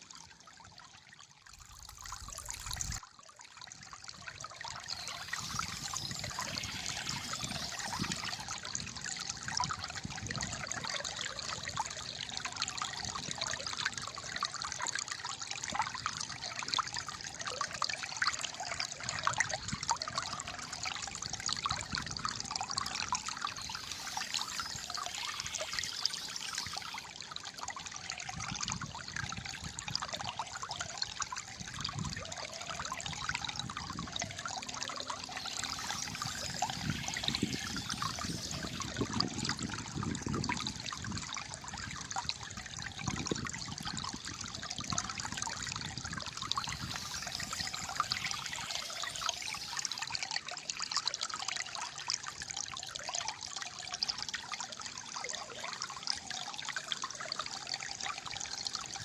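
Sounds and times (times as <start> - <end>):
water trickling and gurgling: 0.0 - 59.0.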